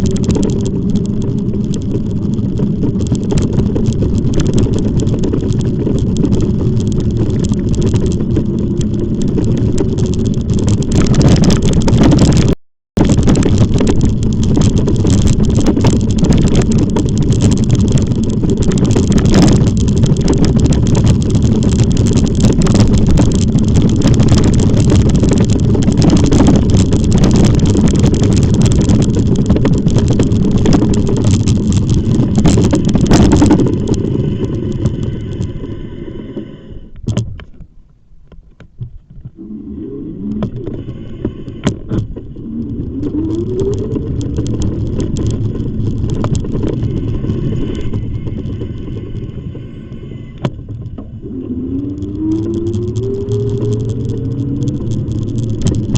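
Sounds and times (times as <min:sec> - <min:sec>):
e-bike riding noise with whines: 0:00.0 - 0:55.9
wind buffeting microphone: 0:00.0 - 0:55.9.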